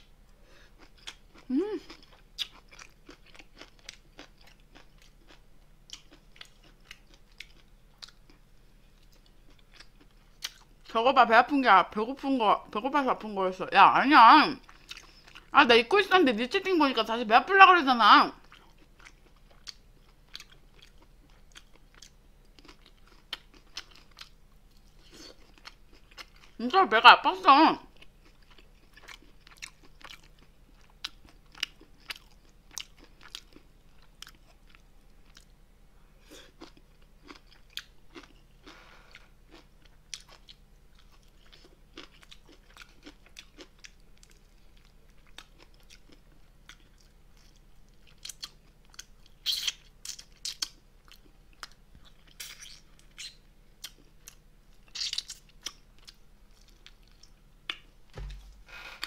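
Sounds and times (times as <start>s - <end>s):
person chewing with crunches: 0.3s - 10.9s, 14.6s - 15.6s, 18.4s - 26.6s, 27.9s - 35.6s, 36.2s - 59.0s.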